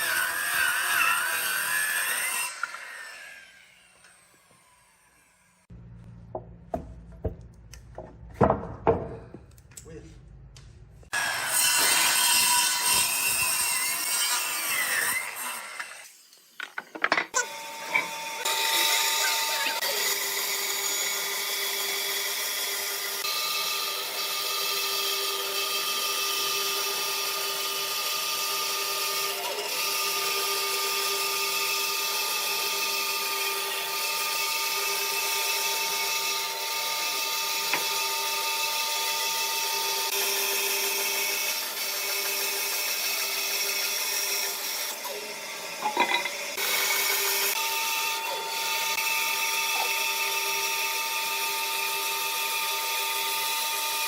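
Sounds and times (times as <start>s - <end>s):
power tool whining on wood: 0.0s - 5.7s, 11.1s - 54.0s.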